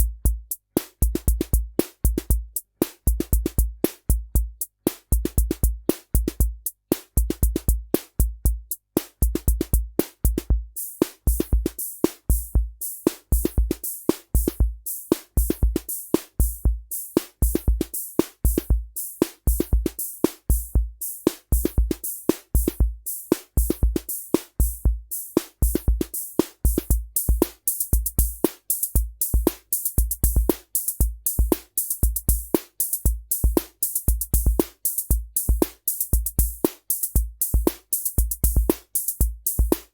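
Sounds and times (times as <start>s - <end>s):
drum machine rock rhythm: 0.0s - 39.9s.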